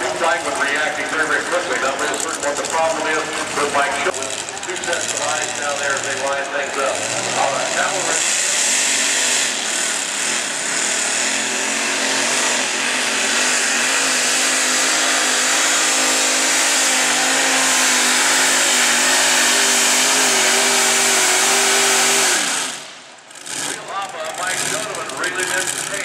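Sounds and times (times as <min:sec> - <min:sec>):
pulling tractor engines running hard: 0:00.0 - 0:26.0.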